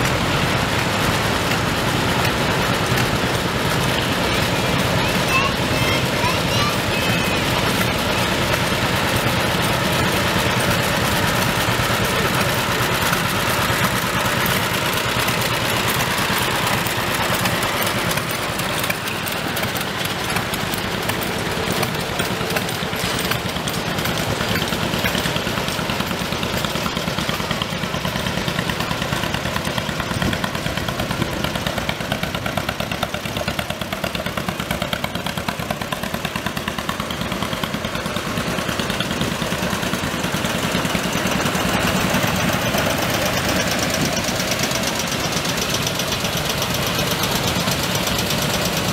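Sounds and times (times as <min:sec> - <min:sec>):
tractor engine pulsing: 0:00.0 - 0:48.9.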